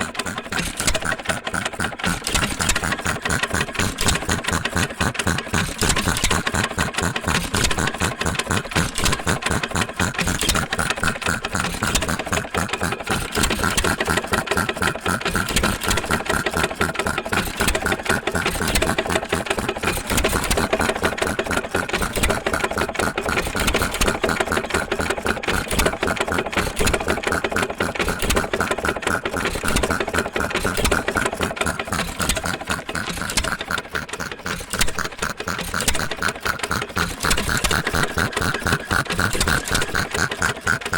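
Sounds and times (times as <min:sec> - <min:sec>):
engine mechanical clatter: 0:00.0 - 0:40.9.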